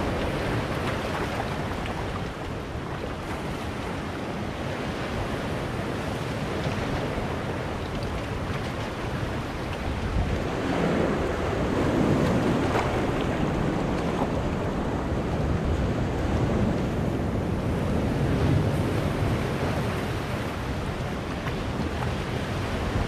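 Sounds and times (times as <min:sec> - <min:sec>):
waves washing among boulders: 0:00.0 - 0:23.0.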